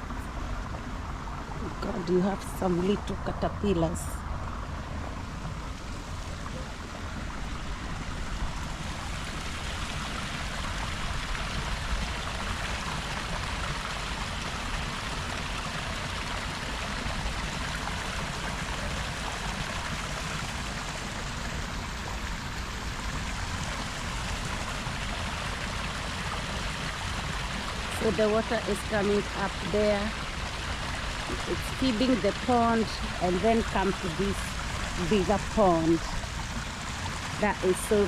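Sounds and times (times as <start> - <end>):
water running over rocks: 0.0 - 38.0.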